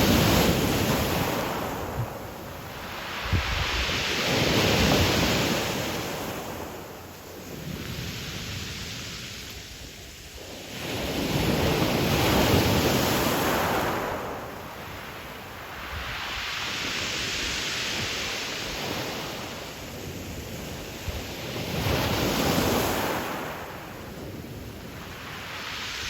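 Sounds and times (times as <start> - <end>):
waves breaking on pebble shore: 0.0 - 26.0.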